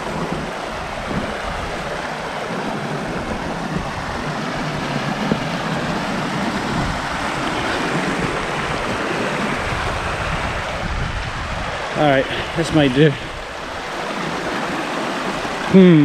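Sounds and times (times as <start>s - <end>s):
stream rushing over stones: 0.0s - 16.0s.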